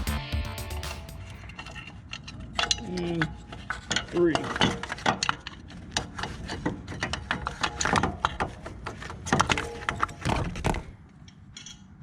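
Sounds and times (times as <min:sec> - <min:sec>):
hand tools and metal clinking: 0:01.4 - 0:12.0.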